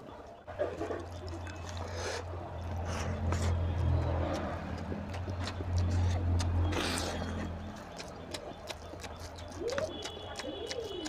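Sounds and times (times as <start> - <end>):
smacking clicks of eating: 0.7 - 11.0
hand mixing wet food: 0.8 - 11.0.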